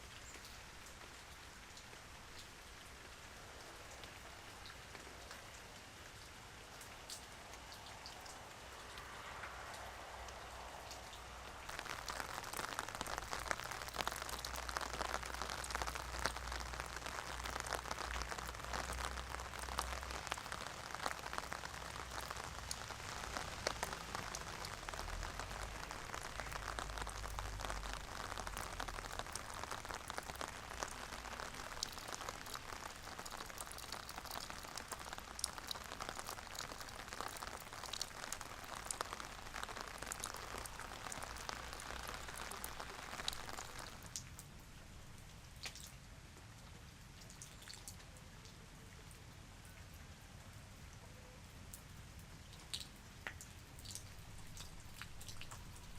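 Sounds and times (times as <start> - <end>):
rain drops pattering: 0.0 - 55.9.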